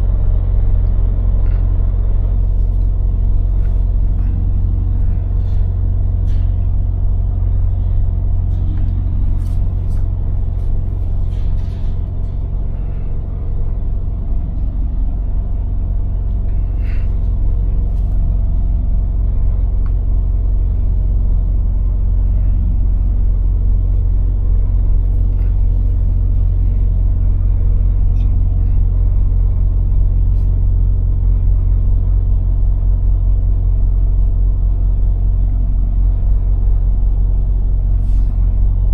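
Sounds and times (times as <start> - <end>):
lorry engine and road noise: 0.0 - 38.9.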